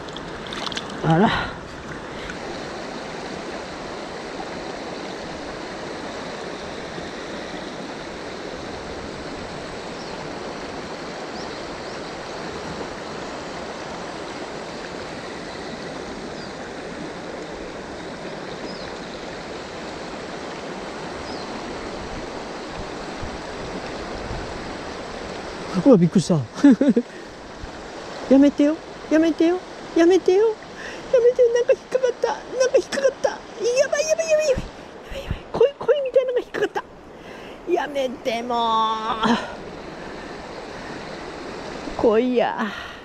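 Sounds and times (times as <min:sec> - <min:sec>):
river current rushing: 0:00.0 - 0:43.0.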